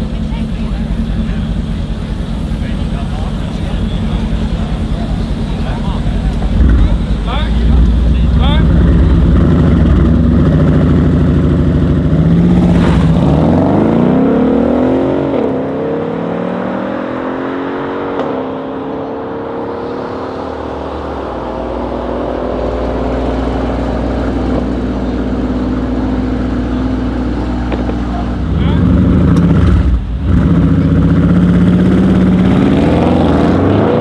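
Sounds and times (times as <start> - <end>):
car engines revving and accelerating: 0.0 - 34.0.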